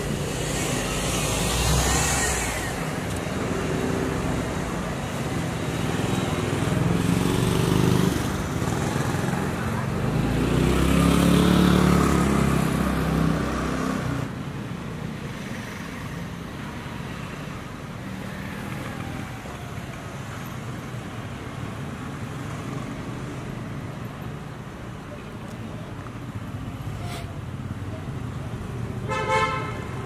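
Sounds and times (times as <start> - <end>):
city street traffic rumble: 0.0 - 30.0.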